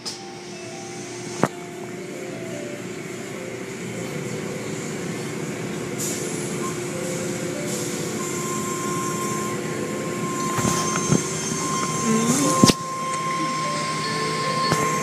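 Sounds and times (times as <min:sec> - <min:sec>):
high steady tone: 0:00.0 - 0:15.0
machine hum: 0:00.0 - 0:15.0.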